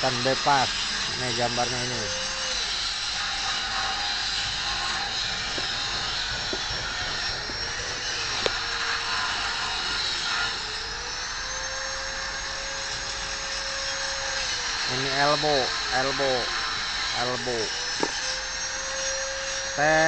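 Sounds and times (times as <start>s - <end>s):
motor whirring: 0.0s - 20.0s.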